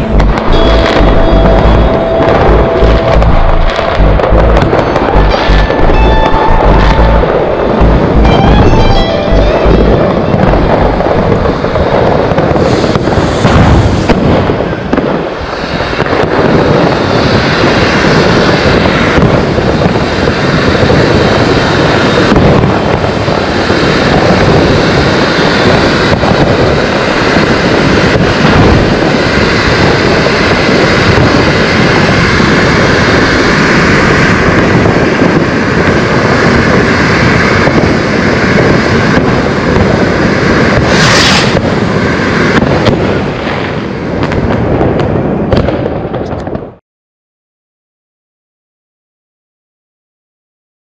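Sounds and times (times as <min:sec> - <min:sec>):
firework cracks: 0:00.0 - 0:46.8
firework fountain hissing: 0:03.8 - 0:45.5.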